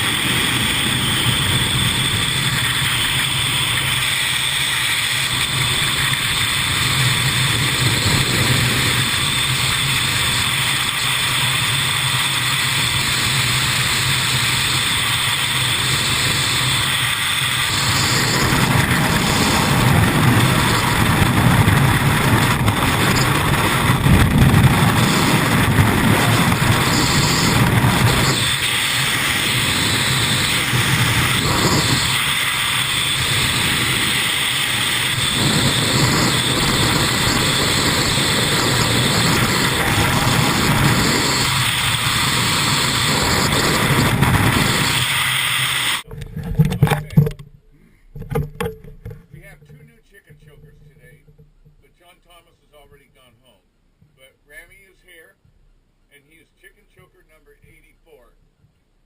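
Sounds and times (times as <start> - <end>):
engine droning: 0.0 - 53.6.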